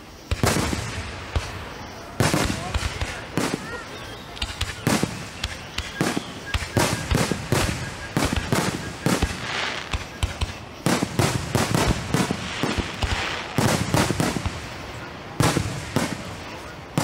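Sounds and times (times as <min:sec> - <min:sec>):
fireworks bangs: 0:00.0 - 0:17.0
fireworks crackling hiss: 0:00.0 - 0:17.0.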